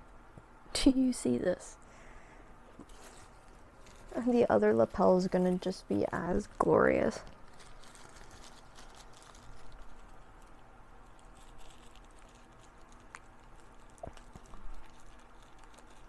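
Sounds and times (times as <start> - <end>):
packaging rustling: 2.8 - 16.0.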